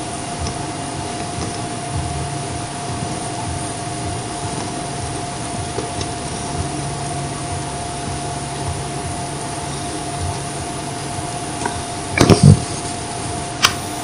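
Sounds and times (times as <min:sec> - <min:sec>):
cat purring: 0:00.0 - 0:13.6
faint constant whine: 0:00.0 - 0:14.0
recording hiss: 0:00.0 - 0:14.0.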